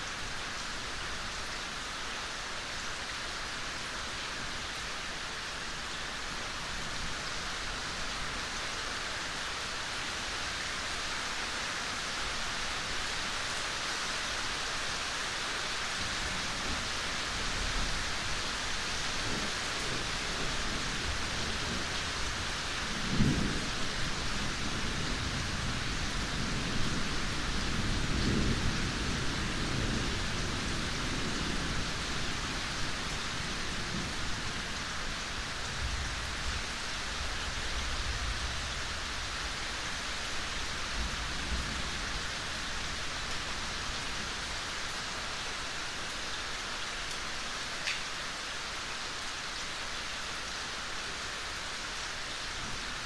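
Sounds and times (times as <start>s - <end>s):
rain falling in a forest: 0.0s - 53.0s.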